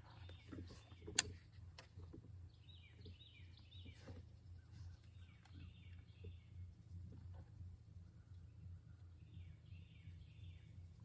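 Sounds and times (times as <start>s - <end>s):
songbird chirping: 0.0s - 7.0s, 8.0s - 11.0s
steady low hum: 0.0s - 11.0s.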